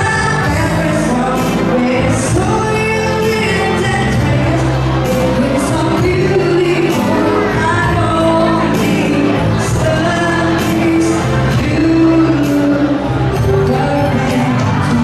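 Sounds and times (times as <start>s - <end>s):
live band playing pop song: 0.0s - 15.0s
person singing: 0.0s - 15.0s.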